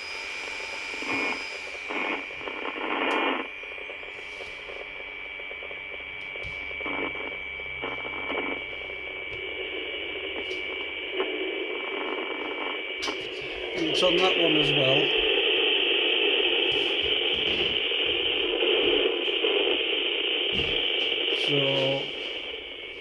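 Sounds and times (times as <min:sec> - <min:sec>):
radio high whistle: 0:00.0 - 0:23.0
radio static hiss: 0:00.0 - 0:23.0.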